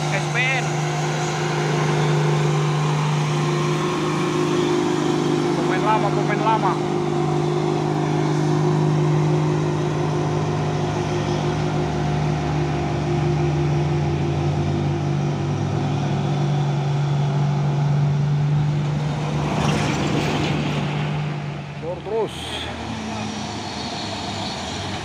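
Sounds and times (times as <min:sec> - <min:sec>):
truck diesel engine drone: 0:00.0 - 0:25.0.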